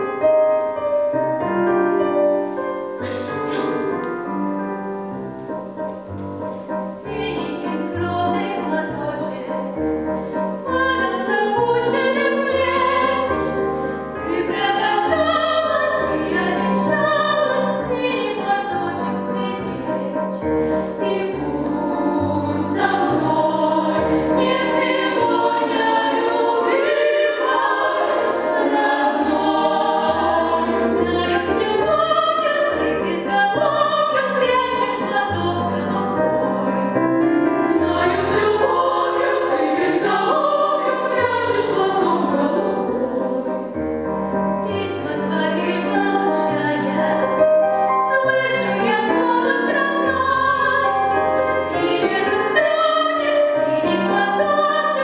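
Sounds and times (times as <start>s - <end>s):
mixed choir singing: 6.7s - 43.8s, 44.6s - 55.0s.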